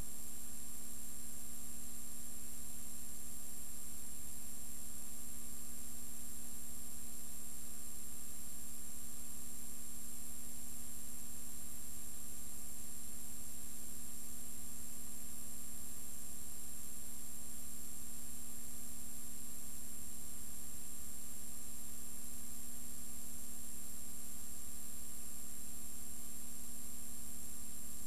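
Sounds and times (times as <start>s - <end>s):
faint high whine: 0.0s - 28.0s
steady electrical hum: 0.0s - 28.0s.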